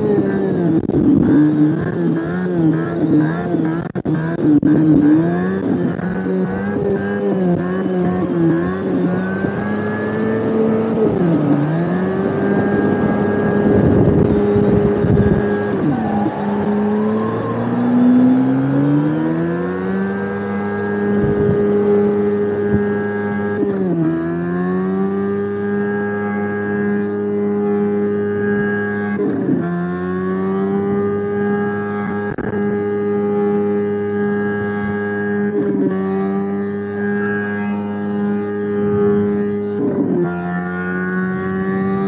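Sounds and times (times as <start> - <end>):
engine sound through speaker revving: 0.0 - 42.0.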